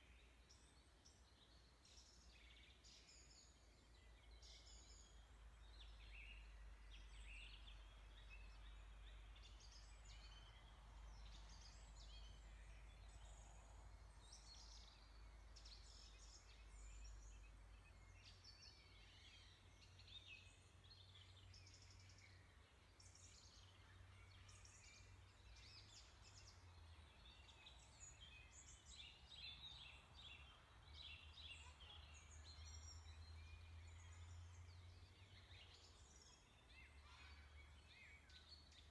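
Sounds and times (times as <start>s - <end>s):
faint bird chirps: 1.4s - 38.9s.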